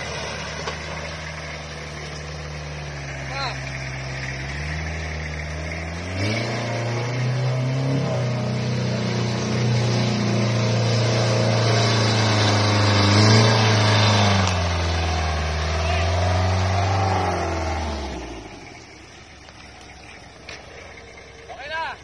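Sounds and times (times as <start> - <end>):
truck engine revving under load: 0.0 - 21.6.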